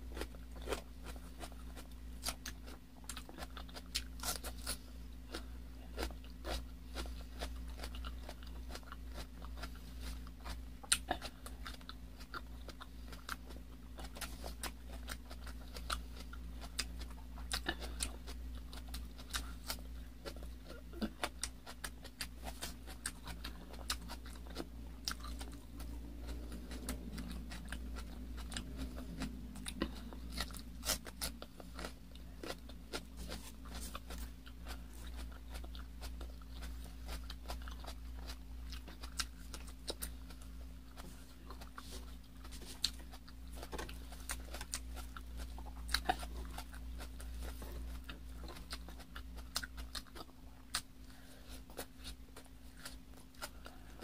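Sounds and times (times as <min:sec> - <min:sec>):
crisp bites and chewing: 0:00.0 - 0:51.0
steady low hum: 0:00.0 - 0:54.0.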